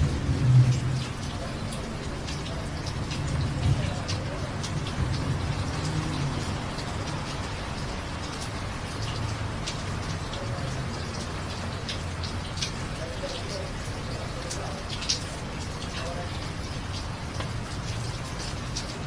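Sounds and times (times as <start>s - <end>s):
drips on hard surfaces: 0.0s - 19.0s
steady rain falling: 0.0s - 19.0s.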